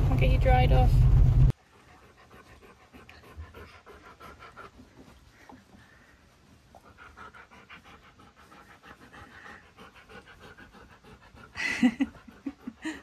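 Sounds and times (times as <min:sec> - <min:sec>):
dog panting: 0:00.1 - 0:13.0.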